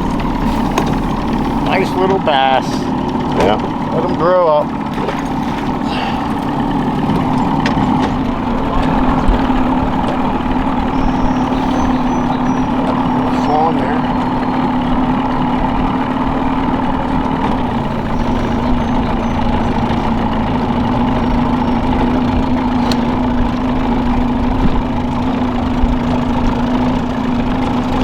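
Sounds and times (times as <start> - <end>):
outboard motor droning: 0.0 - 28.0.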